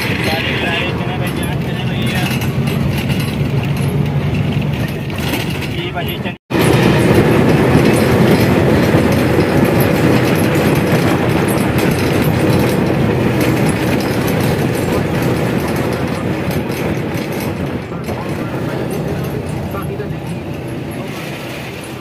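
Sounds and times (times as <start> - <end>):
bus body rattling: 0.0 - 22.0
bus engine running: 0.0 - 22.0
road noise: 0.0 - 22.0.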